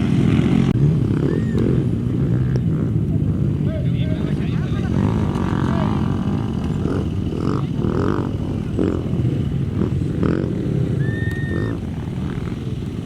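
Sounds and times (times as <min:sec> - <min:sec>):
race vehicle engines rumbling: 0:00.0 - 0:13.0.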